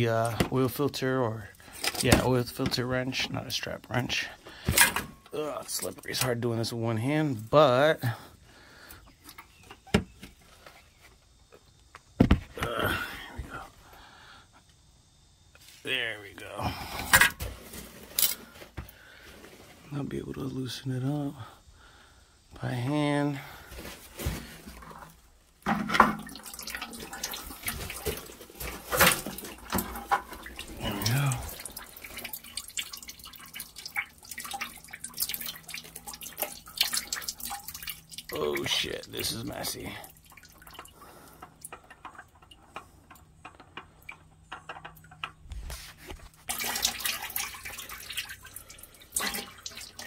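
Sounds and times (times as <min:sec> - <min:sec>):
engine oil pouring and dripping: 0:00.0 - 0:50.0.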